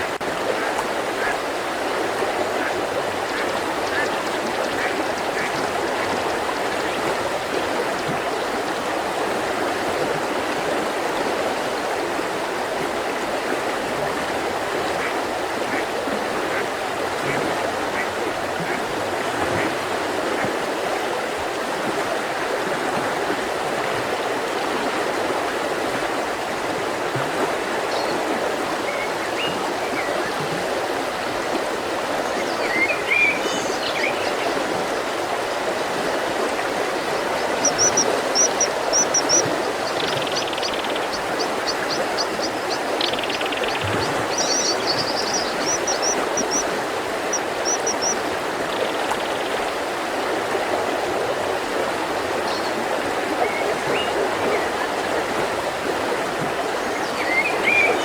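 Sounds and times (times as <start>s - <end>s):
mountain river flowing: 0.0s - 58.0s.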